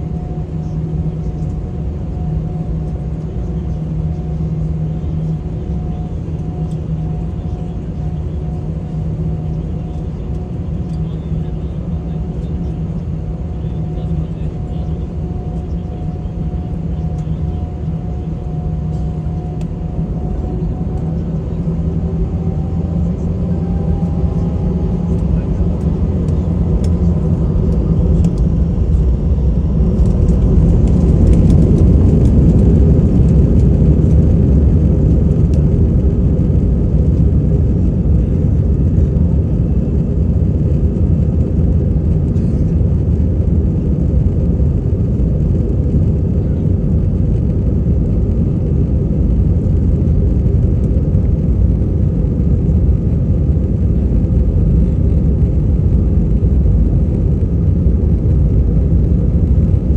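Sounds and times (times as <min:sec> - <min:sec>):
jet engines rumbling inside cabin: 0:00.0 - 0:59.9.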